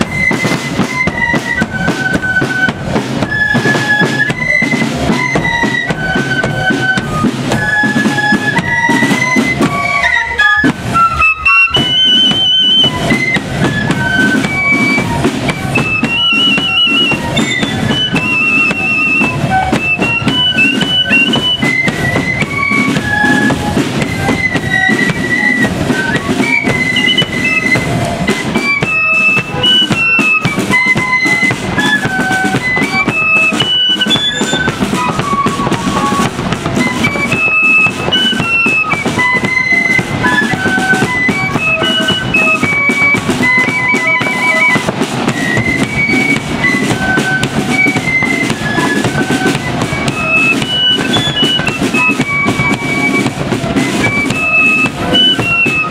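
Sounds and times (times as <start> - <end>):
flutes playing melody: 0.0 - 55.9.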